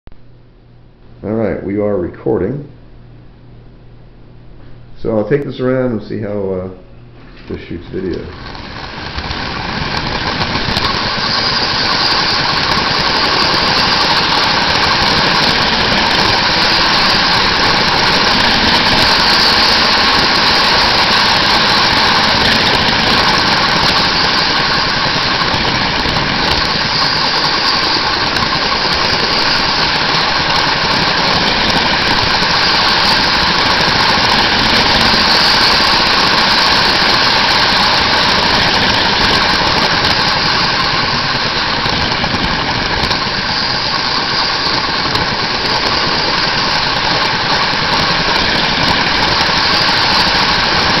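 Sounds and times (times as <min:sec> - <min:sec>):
toy train motor and wheels running: 0:07.9 - 0:51.0.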